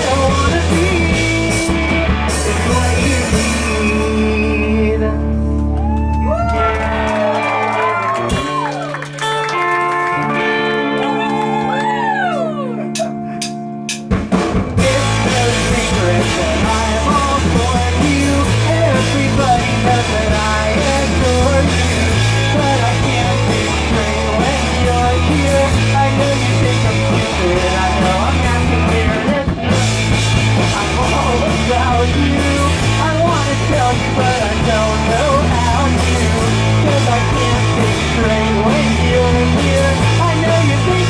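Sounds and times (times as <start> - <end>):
bass line: 0.0 - 41.0
distorted guitar: 0.0 - 41.0
drum kit: 0.0 - 41.0.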